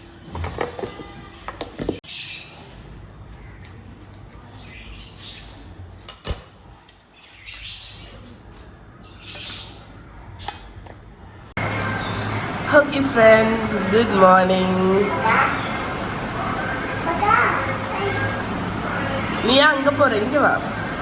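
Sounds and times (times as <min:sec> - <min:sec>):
birds chirping: 0:02.0 - 0:06.4, 0:07.0 - 0:21.0.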